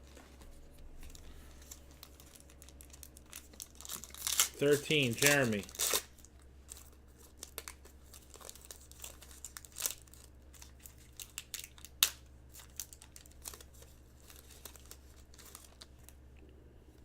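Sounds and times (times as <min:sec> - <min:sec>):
wrapper tearing and crinkling: 0:00.8 - 0:16.2.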